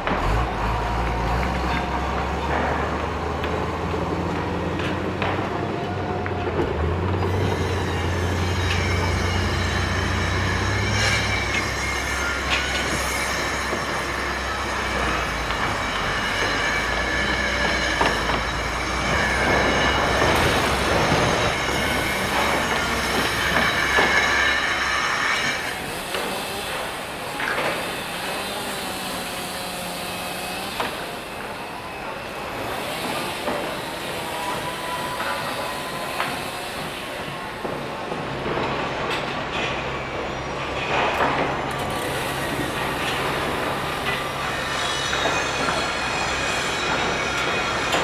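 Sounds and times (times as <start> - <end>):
large vehicle engine rumbling: 0.0 - 48.0
high metallic squeal: 7.0 - 48.0.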